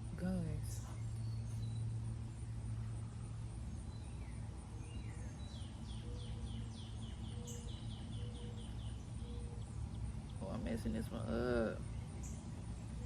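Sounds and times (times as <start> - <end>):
low background rumble: 0.0 - 13.0
bird chirping: 0.7 - 13.0.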